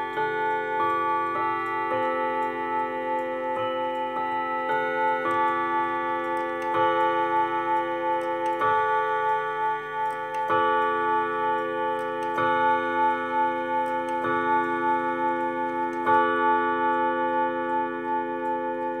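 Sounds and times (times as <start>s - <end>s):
clock striking chime rods: 0.0s - 19.0s
clock ticking: 0.0s - 19.0s.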